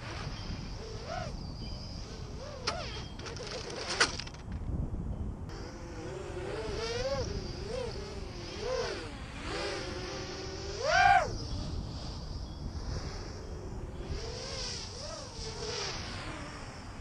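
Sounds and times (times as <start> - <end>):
drone propellers buzzing: 0.0 - 4.6, 5.5 - 17.0.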